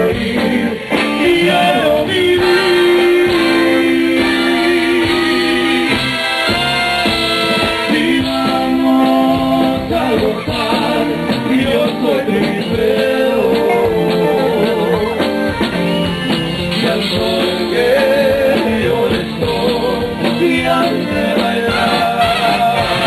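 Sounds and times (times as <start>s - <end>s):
person singing: 0.0s - 6.0s, 7.6s - 15.9s, 16.5s - 23.0s
live band music: 0.0s - 23.0s.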